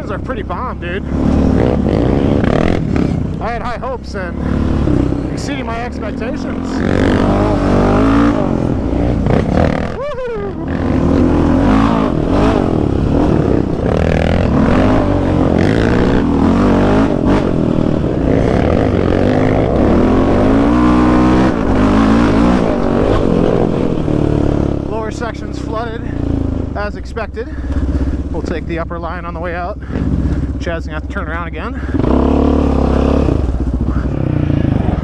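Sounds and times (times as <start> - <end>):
quad engine revving: 0.0 - 35.0.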